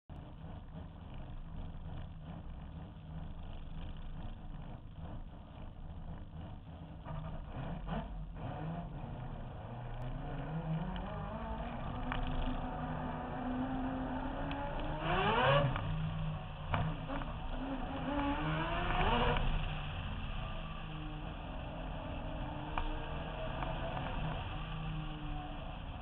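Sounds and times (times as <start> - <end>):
car engine running: 0.1 - 26.0.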